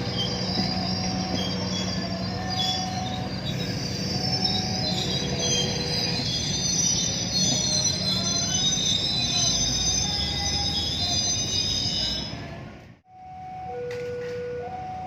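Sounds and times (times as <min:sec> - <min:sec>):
train wheels squealing: 0:00.0 - 0:12.5
train rumble: 0:00.0 - 0:13.1.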